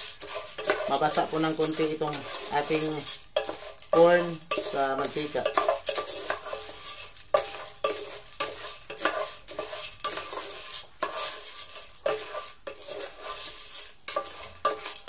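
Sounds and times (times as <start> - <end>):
popcorn kernels rattling in a pan: 0.0 - 15.0.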